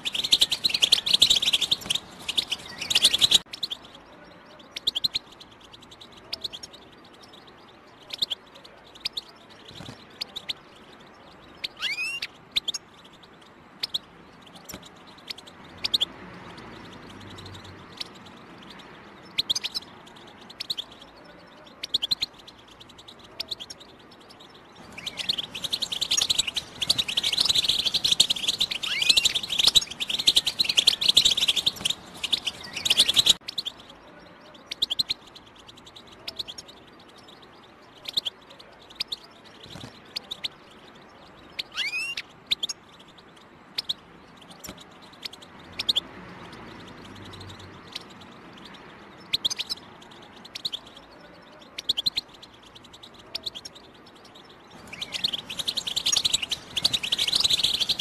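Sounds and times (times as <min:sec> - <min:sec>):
goldfinch twittering and chirping: 0:00.0 - 0:58.0.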